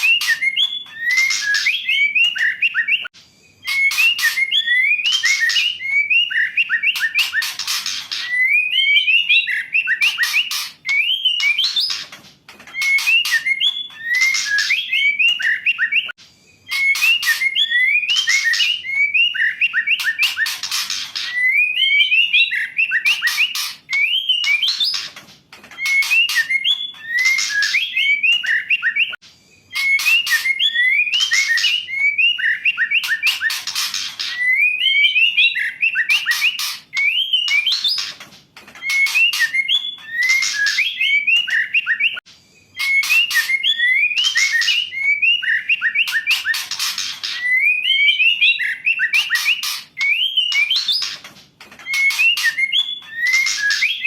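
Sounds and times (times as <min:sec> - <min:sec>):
bird whistled calls and rasping chatter: 0:00.0 - 0:54.0.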